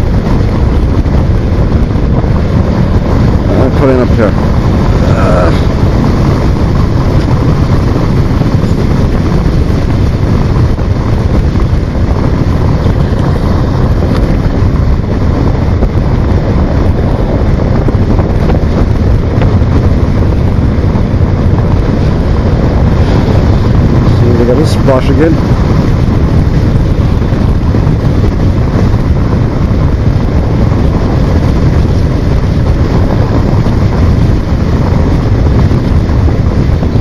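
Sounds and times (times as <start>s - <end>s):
wind buffeting on microphone: 0.0s - 37.0s.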